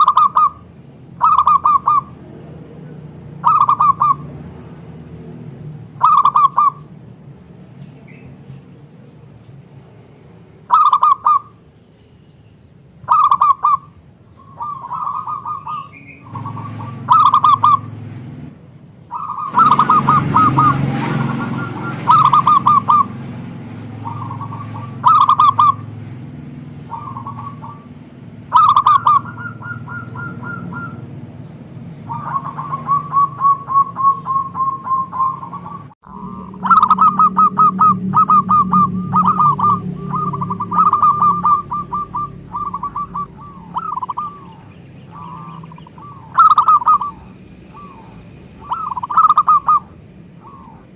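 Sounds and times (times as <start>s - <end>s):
doves cooing: 0.0s - 6.9s, 10.7s - 11.6s, 13.1s - 18.2s, 19.1s - 50.9s
low background hum: 0.0s - 50.9s.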